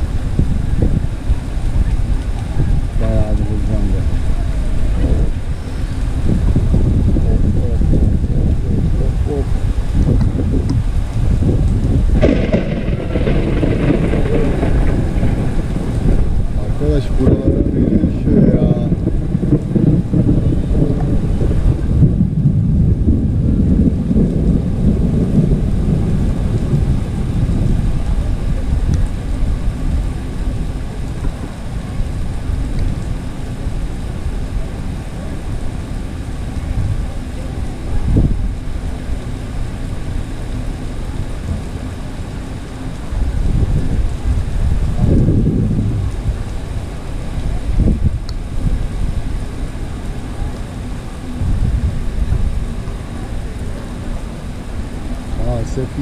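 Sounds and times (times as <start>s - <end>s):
heavy rain on paving: 0.0s - 56.0s
wind buffeting microphone: 0.0s - 56.0s.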